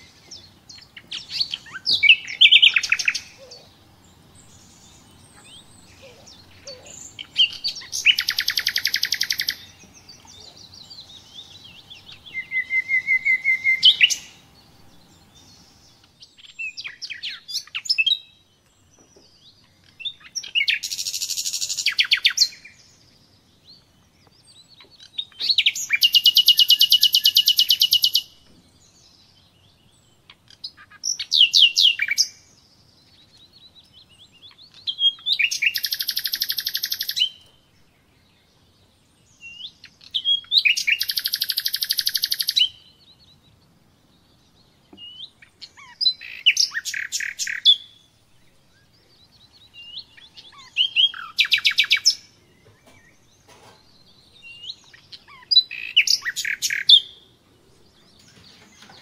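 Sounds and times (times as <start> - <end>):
songbird trilling: 0.0 - 23.1, 24.3 - 32.4, 33.0 - 37.6, 39.4 - 59.0
bird chirps: 0.0 - 59.0.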